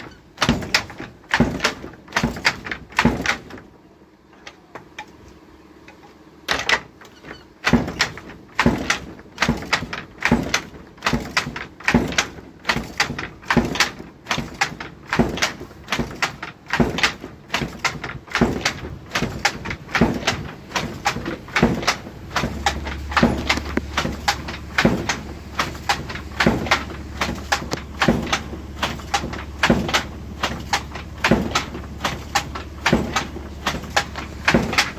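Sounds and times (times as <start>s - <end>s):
wooden handloom knocking: 0.0s - 3.7s, 5.9s - 34.9s.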